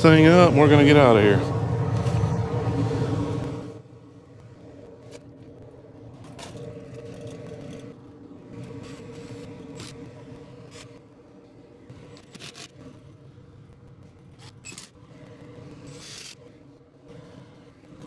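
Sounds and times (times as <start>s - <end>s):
rooftop unit humming: 0.0s - 18.0s.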